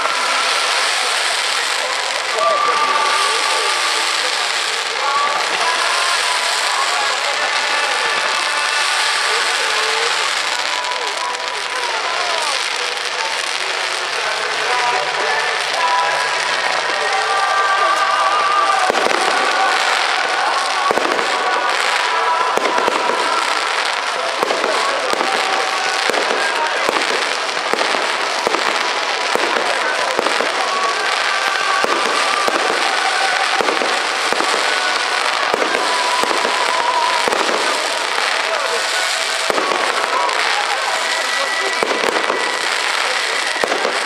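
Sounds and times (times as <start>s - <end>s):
fireworks crackling and popping: 0.0s - 44.0s
sharp fireworks bangs: 0.0s - 44.0s.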